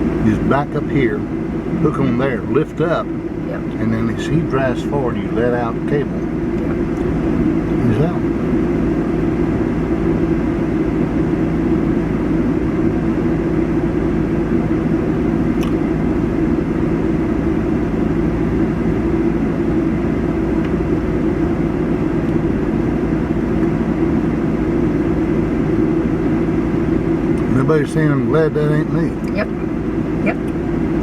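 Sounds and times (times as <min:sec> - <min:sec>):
vehicle engine running steadily: 0:00.0 - 0:31.0.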